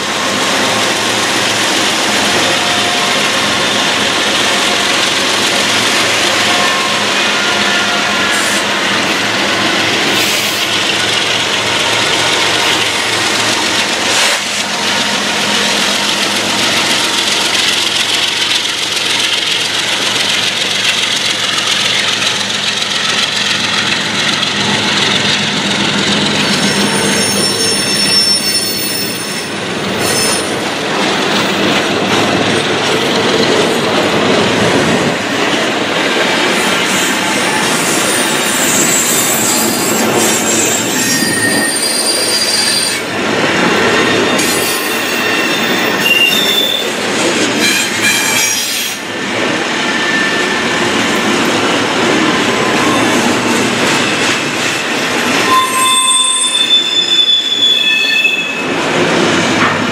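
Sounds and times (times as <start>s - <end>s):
high wheel squeal: 0.0s - 31.7s, 36.4s - 47.0s, 47.6s - 50.9s, 52.3s - 58.8s
diesel locomotives passing: 0.0s - 59.9s
wheel-on-rail noise: 0.0s - 59.9s.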